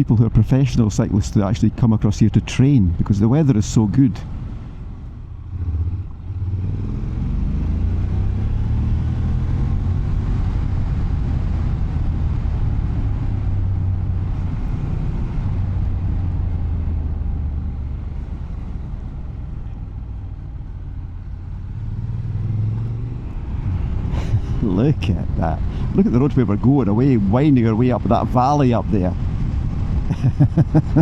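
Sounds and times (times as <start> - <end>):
motorcycle engine droning: 1.7 - 31.0.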